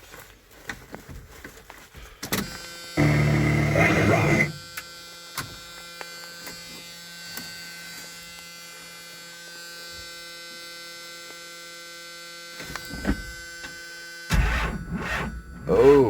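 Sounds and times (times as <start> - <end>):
electrical hum-buzz: 2.5 - 16.0.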